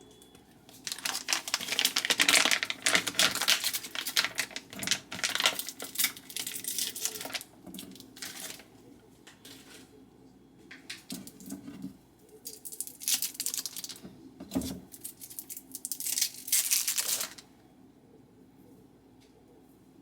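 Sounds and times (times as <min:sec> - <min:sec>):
rustling and crinkling: 0:00.2 - 0:10.0, 0:10.7 - 0:17.5.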